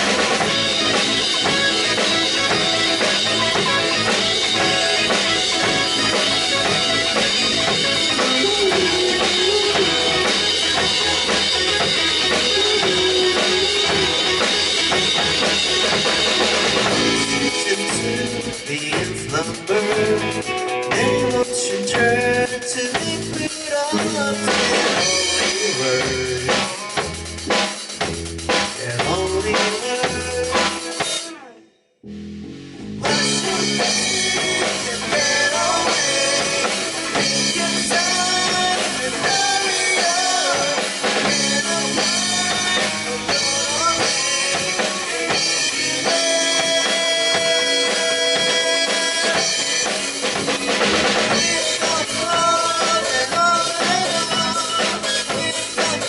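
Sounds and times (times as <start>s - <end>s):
band playing instrumental: 0.0s - 31.6s, 32.7s - 56.0s
drum kit: 0.0s - 31.6s, 32.8s - 56.0s.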